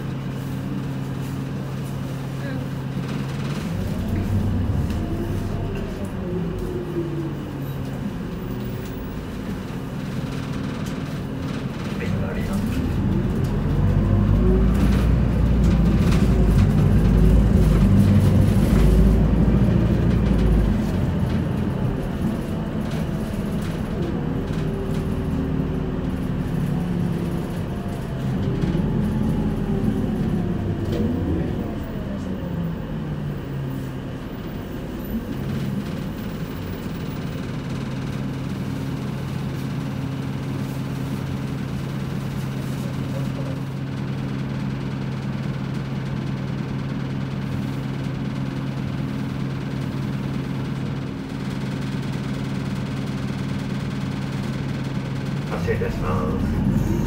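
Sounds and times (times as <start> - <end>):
bus diesel engine rumble: 0.0 - 57.0
engine whine: 0.2 - 44.2, 50.3 - 57.0.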